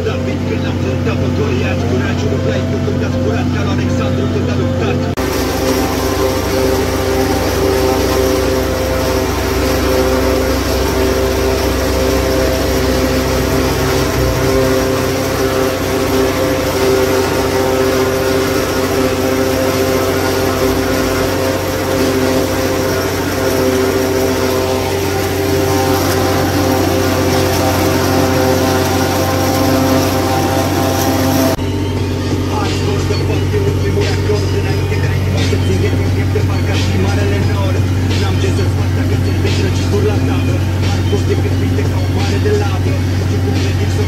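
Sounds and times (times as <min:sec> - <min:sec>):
tractor engine drone: 0:00.0 - 0:44.0.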